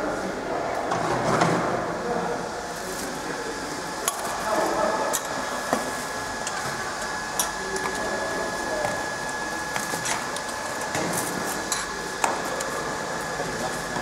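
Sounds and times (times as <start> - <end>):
high steady whine: 1.9 - 14.0.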